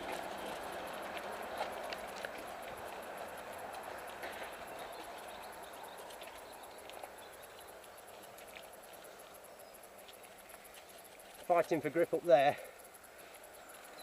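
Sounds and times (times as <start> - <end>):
bike tyres on dirt trail: 0.0 - 14.0.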